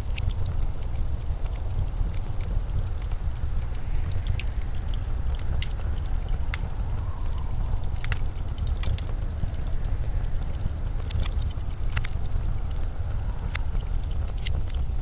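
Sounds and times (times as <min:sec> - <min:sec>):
blizzard wind rumbling: 0:00.0 - 0:15.0
sharp crackles and ticks: 0:00.0 - 0:15.0.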